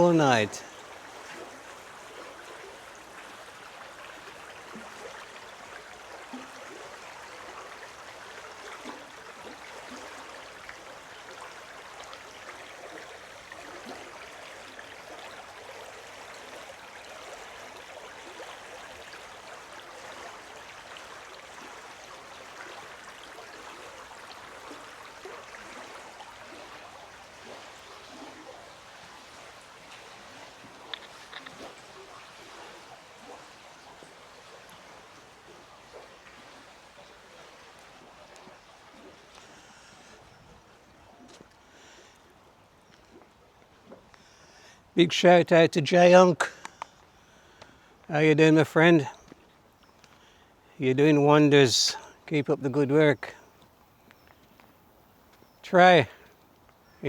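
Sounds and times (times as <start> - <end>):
stream burbling: 0.0 - 57.0.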